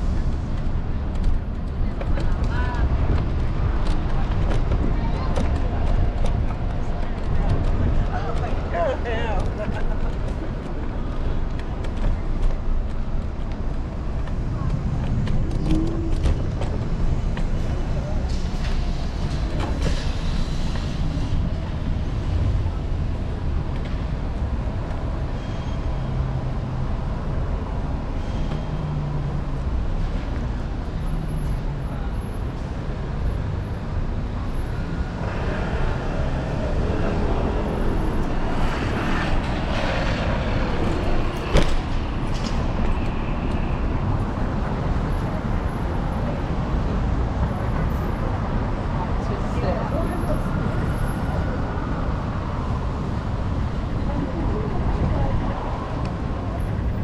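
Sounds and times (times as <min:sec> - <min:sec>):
city street traffic: 0:00.0 - 0:57.0
wind and road rumble: 0:00.0 - 0:57.0.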